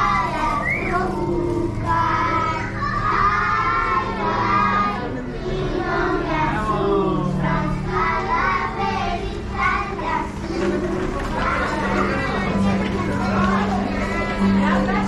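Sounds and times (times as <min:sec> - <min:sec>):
children singing and calling out: 0:00.0 - 0:15.0.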